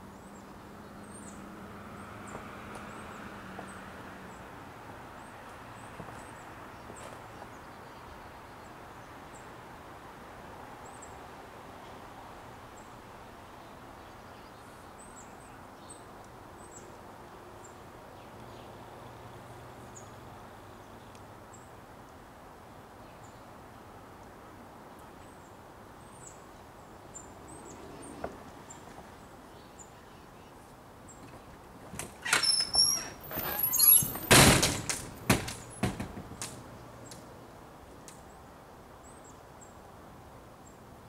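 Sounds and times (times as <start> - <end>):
outdoor background noise: 0.0 - 41.0.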